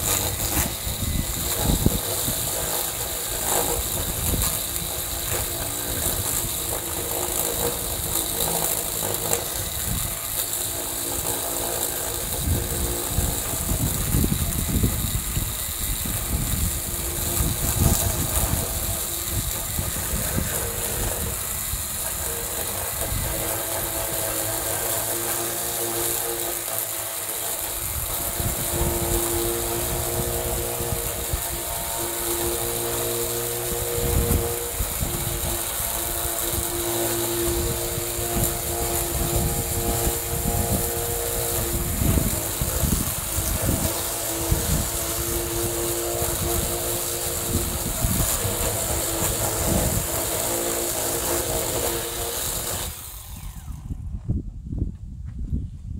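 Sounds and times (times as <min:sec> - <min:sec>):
chainsaw cutting wood board: 0:00.0 - 0:54.4.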